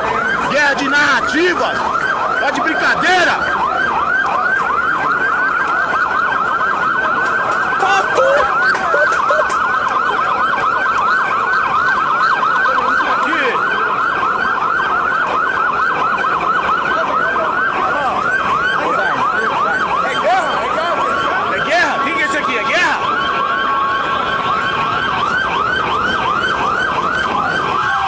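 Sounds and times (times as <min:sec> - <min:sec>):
electronic sirens yelping: 0:00.0 - 0:28.0
street and crowd noise: 0:00.0 - 0:28.0.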